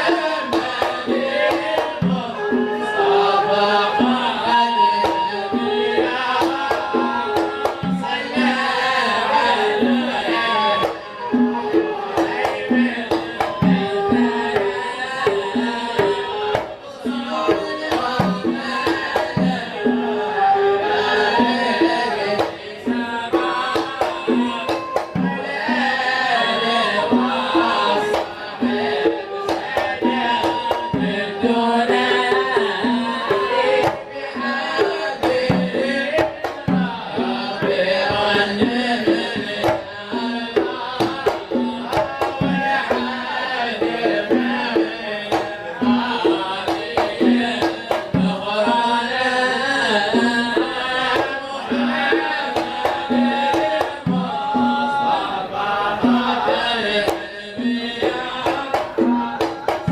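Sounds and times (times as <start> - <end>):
hand drums beating: 0.0 - 59.9
voices singing a melody: 0.0 - 59.9.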